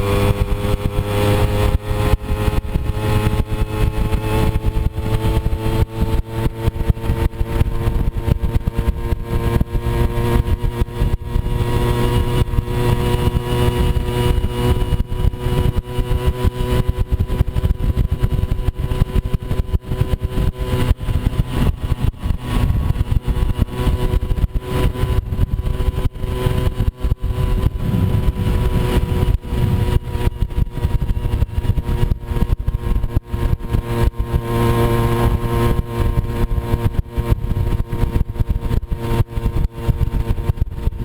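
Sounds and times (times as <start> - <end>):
moped engine running: 0.0 - 41.0.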